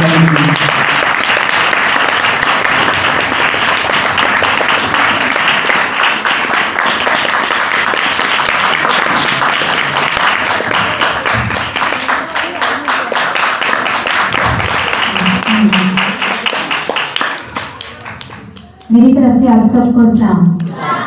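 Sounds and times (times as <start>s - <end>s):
people clapping: 0.0s - 19.1s.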